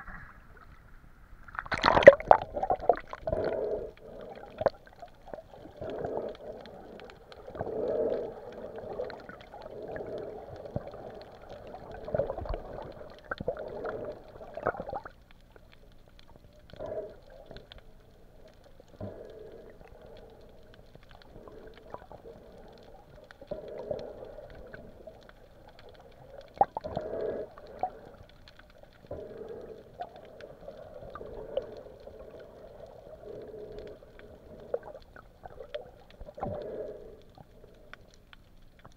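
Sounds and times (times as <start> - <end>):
underwater swishing and gurgling: 0.0 - 38.9.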